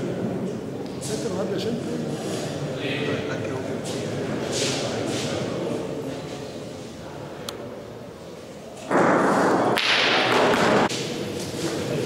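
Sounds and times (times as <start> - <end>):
murmur of spectators: 0.0 - 12.0.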